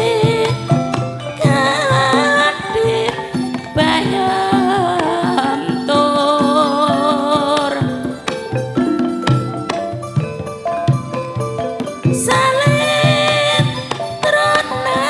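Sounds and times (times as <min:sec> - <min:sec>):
drum strokes: 0:00.0 - 0:15.0
metal-keyed instruments: 0:00.0 - 0:15.0
woman singing wavering line: 0:00.0 - 0:15.0.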